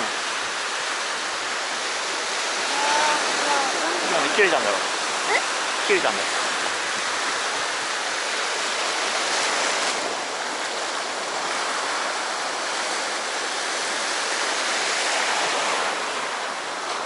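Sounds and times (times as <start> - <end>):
sea surf washing on shore: 0.0 - 17.0.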